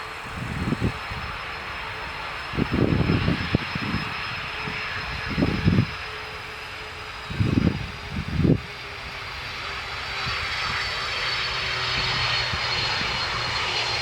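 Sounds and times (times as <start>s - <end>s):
high jet engine whine: 0.0s - 14.0s
jet engines roaring: 0.0s - 14.0s
wind buffeting microphone: 0.0s - 14.0s.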